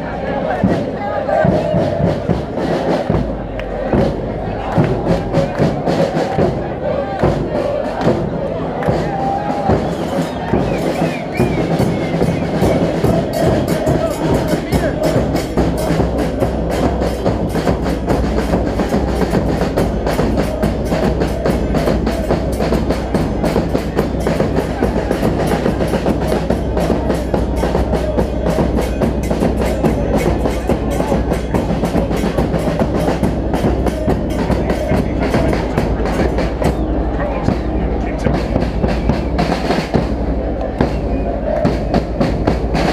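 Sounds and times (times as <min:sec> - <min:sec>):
bass drums and percussion beating: 0:00.0 - 0:42.9
crowd noise: 0:00.0 - 0:42.9.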